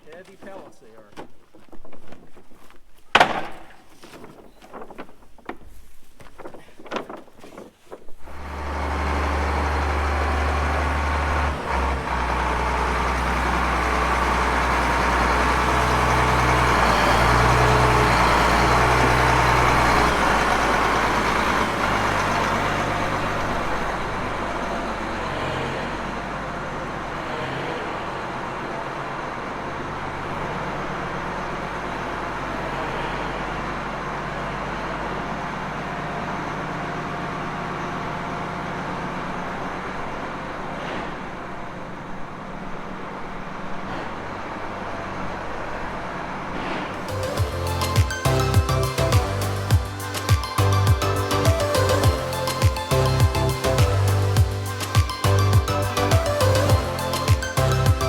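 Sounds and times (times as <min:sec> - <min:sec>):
vehicle engine droning: 0:08.1 - 0:58.0.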